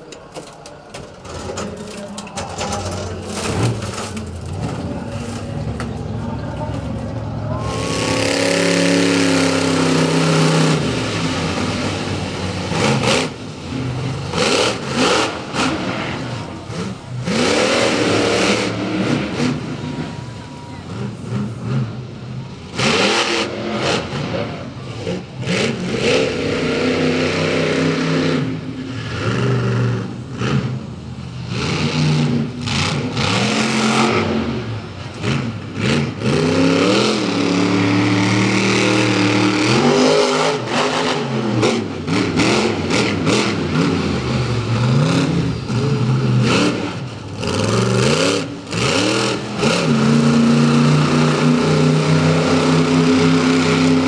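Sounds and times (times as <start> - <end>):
truck engine revving: 1.2 - 54.0.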